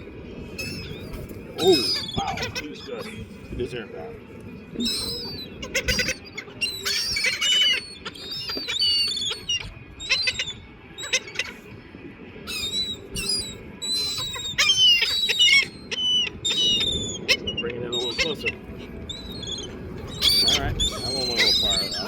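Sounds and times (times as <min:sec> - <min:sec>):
seagulls calling: 0:00.0 - 0:22.0.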